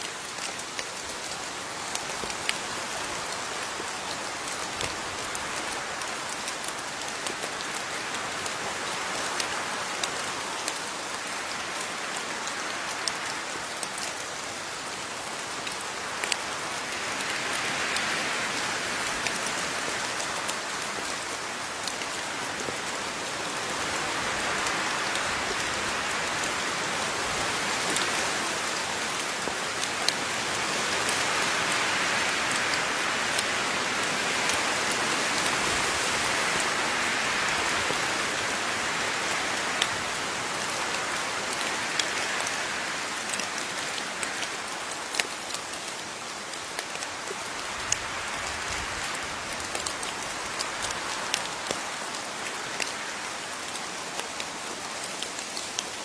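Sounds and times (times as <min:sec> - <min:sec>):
raindrops striking close by: 0:00.0 - 0:56.0
steady rain: 0:00.0 - 0:56.0.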